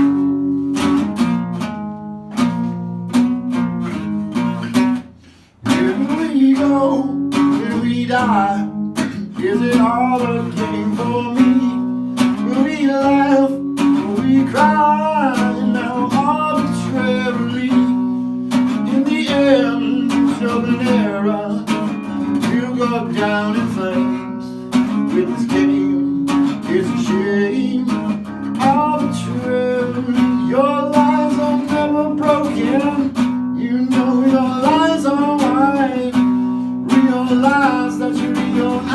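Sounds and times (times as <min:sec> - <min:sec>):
acoustic guitar melody: 0:00.0 - 0:38.9.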